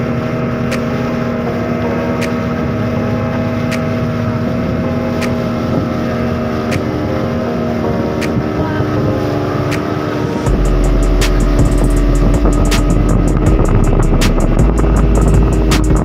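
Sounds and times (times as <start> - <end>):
boat motor running: 0.0 - 16.0
water rushing past hull: 0.0 - 16.0
wind on microphone: 0.0 - 16.0.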